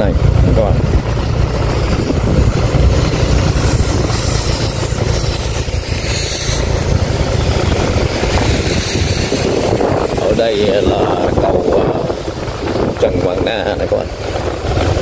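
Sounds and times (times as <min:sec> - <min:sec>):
engine rumbling: 0:00.0 - 0:15.0
rushing noise: 0:00.0 - 0:15.0.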